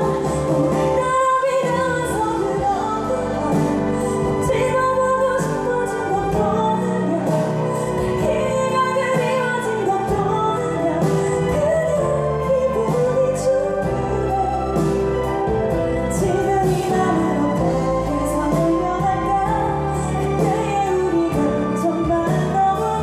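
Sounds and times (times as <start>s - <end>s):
soft instrumental backing chords: 0.0s - 23.0s
woman singing slow ballad: 0.0s - 23.0s.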